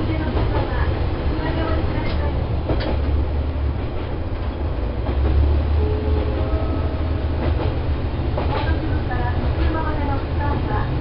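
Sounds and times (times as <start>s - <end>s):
railcar rumbling: 0.0s - 11.0s.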